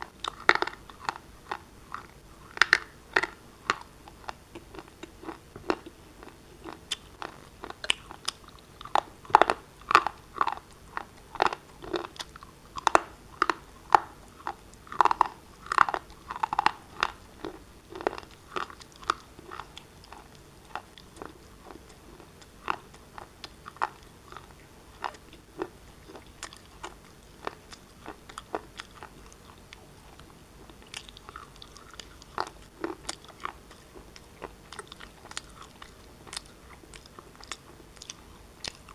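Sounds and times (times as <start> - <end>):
chewing crunchy shale: 0.0 - 38.9.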